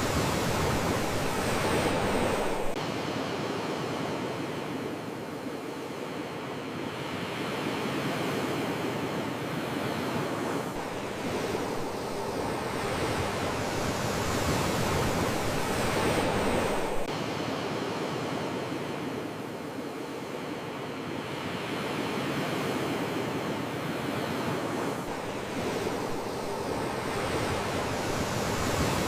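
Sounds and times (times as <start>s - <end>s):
sea waves washing in: 0.0s - 29.0s.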